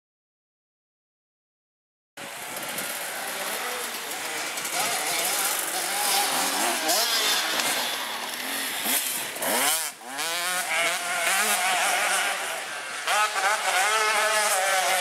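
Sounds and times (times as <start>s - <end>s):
motocross bike engine revving: 2.2s - 15.0s.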